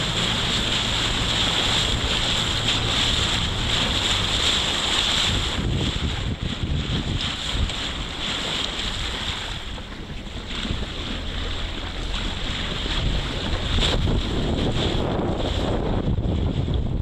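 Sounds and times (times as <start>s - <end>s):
low rumble: 0.0s - 8.1s, 8.9s - 17.0s
choppy sea water slapping: 0.0s - 17.0s
wind buffeting microphone: 0.0s - 17.0s.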